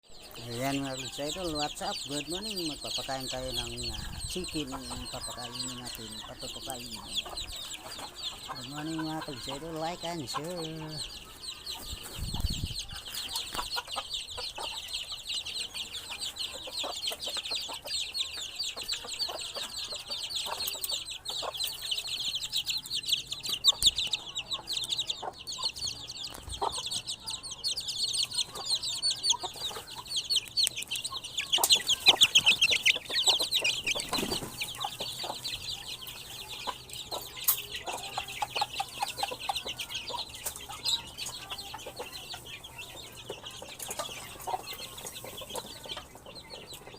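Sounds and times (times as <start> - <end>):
chickens clucking: 0.0 - 46.9
rapid high-pitched chirping: 0.0 - 46.9
loud chicken calls: 0.2 - 46.8.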